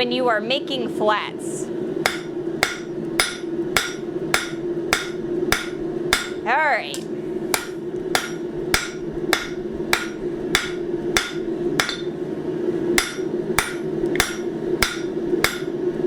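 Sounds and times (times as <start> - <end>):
hammer striking metal on anvil: 2.0 - 12.2, 13.0 - 15.8.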